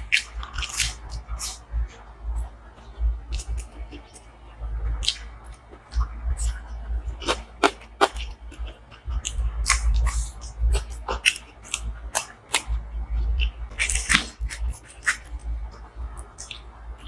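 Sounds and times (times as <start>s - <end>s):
chewing with wet mouth clicks: 0.0s - 1.7s, 3.3s - 4.3s, 5.0s - 16.7s.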